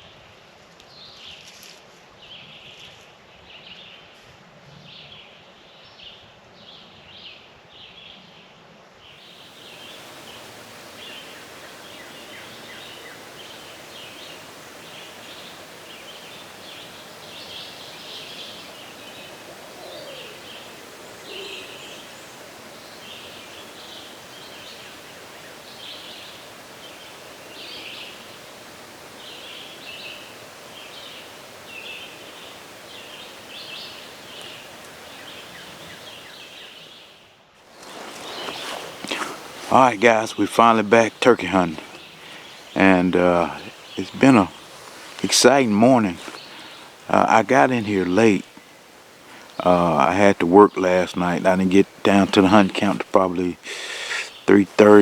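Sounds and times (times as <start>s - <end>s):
outdoor background hiss: 0.0s - 55.0s
songbirds chirping and singing: 9.3s - 55.0s.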